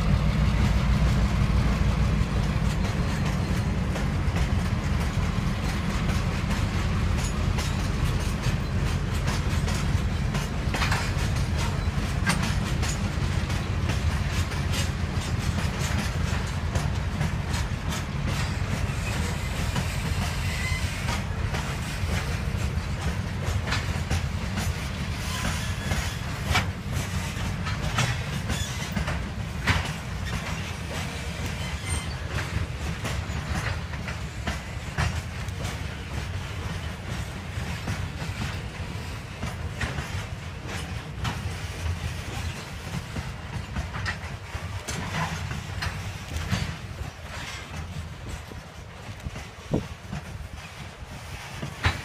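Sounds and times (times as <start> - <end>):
train rumble: 0.0 - 52.0
train wheels clattering over rail joints: 0.0 - 52.0.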